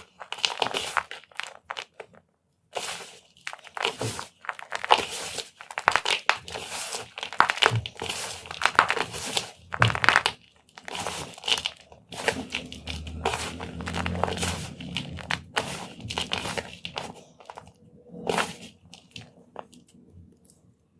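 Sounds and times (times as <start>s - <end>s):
chalk being crushed: 0.0s - 2.0s, 2.7s - 19.8s.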